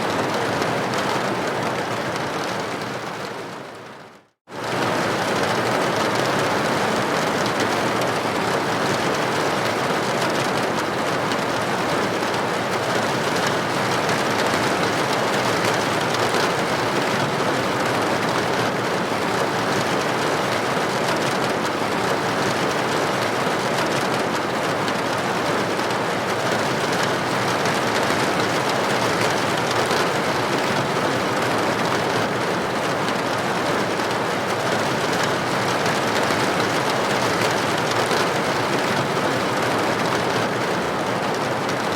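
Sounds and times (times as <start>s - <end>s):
rain on a window: 0.0s - 41.9s.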